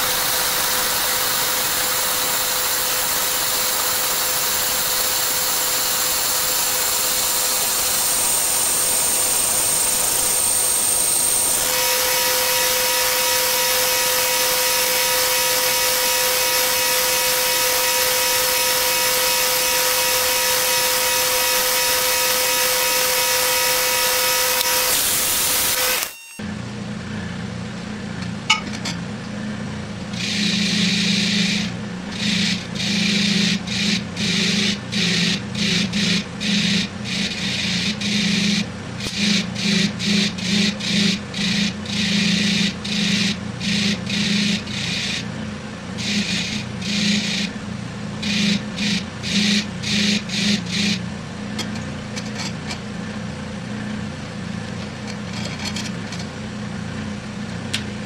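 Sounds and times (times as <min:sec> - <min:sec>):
bench grinder motor running: 0:00.0 - 0:26.1, 0:30.1 - 0:51.1.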